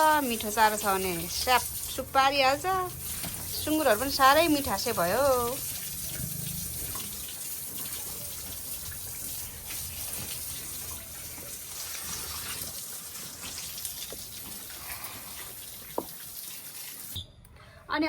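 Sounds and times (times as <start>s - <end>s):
water running: 0.0s - 17.2s.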